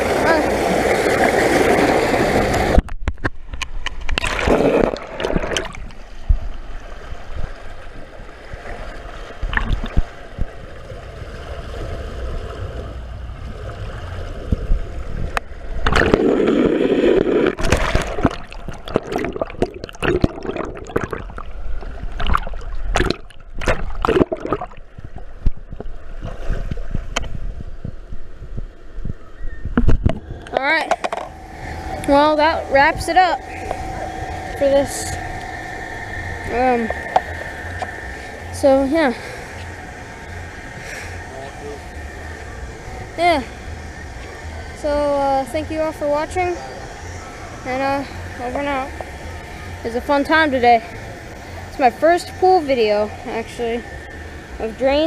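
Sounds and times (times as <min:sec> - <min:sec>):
water rushing and gurgling: 0:00.0 - 0:02.8, 0:03.7 - 0:27.8, 0:29.8 - 0:55.0.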